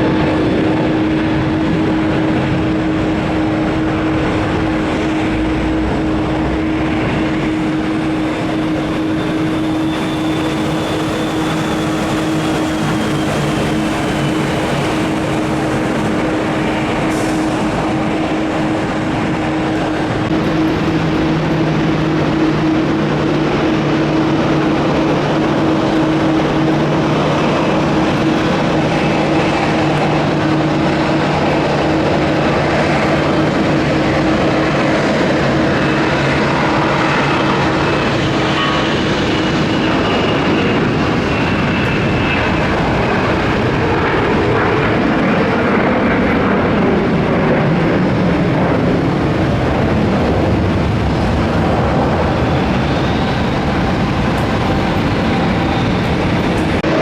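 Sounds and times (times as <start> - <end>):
jet engines at take-off: 0.0 - 57.0.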